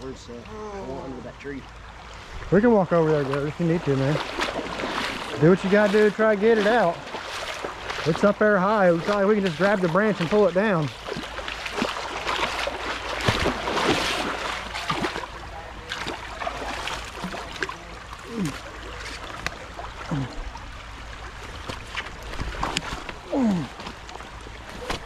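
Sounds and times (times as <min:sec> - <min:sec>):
creek water running: 0:00.0 - 0:25.0.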